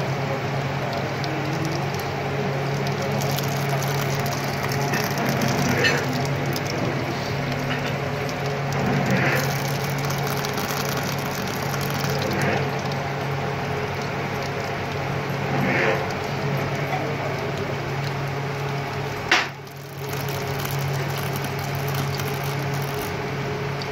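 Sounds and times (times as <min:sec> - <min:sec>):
low machine hum: 0:00.0 - 0:23.9
oil splashing: 0:00.1 - 0:23.9.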